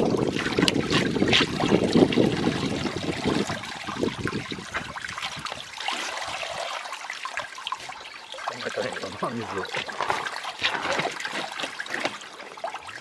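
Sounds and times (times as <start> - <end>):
water running from a hose: 0.0 - 13.0.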